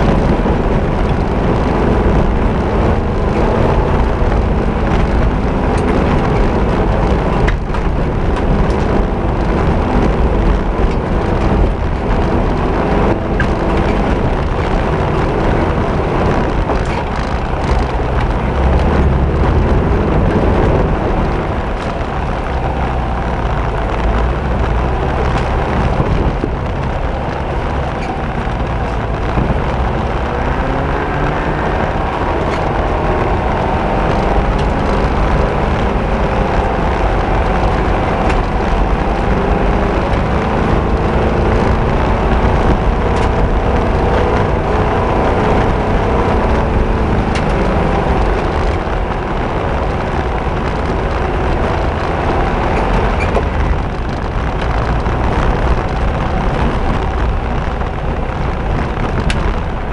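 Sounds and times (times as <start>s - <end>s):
knocks and rattles: 0.0s - 59.9s
off-road vehicle engine revving: 0.0s - 59.9s.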